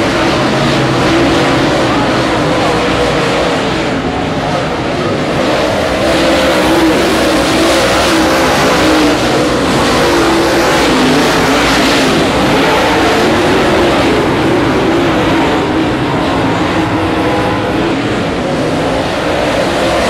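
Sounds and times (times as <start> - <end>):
race car engines roaring: 0.0 - 20.0.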